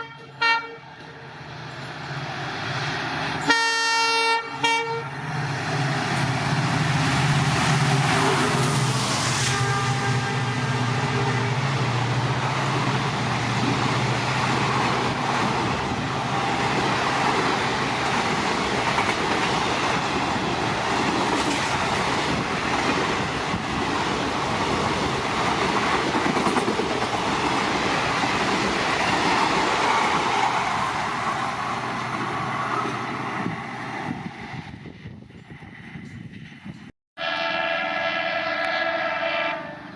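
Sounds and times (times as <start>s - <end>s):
train wheels rushing on rails: 0.0s - 36.9s.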